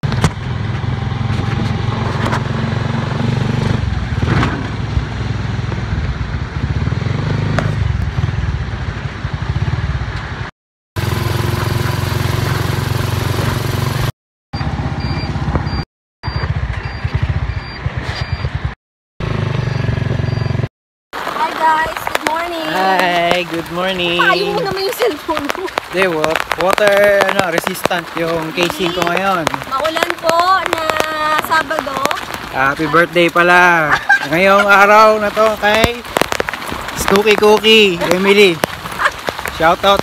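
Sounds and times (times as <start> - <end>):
motorcycle engine running: 0.0 - 20.7, 21.6 - 40.0.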